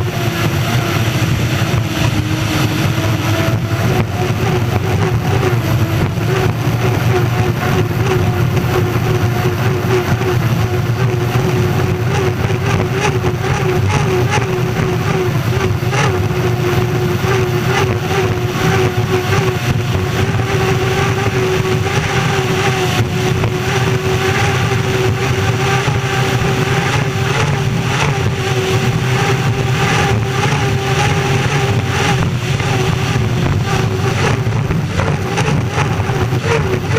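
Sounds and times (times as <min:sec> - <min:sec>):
rushing noise: 0:00.0 - 0:36.9
turbine engine roaring: 0:00.0 - 0:36.9.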